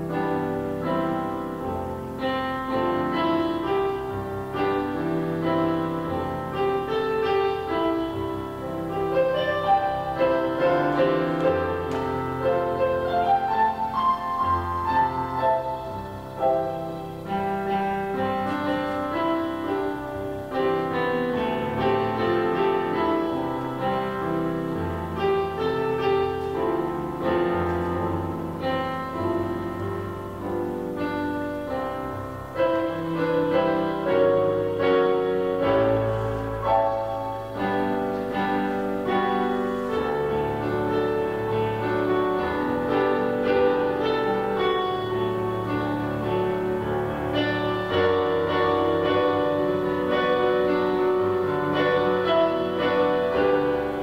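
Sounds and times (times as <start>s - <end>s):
slow piano chords: 0.0s - 54.0s.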